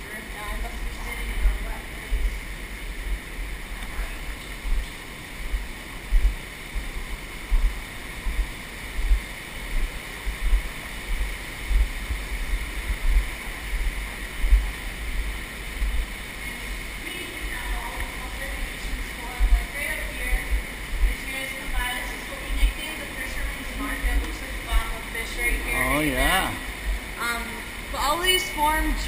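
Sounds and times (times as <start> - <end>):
underground stream rushing: 0.0 - 29.0.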